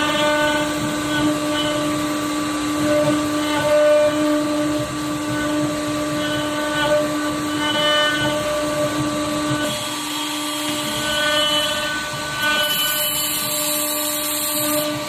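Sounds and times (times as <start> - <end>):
cnc router whining: 0.0 - 15.0.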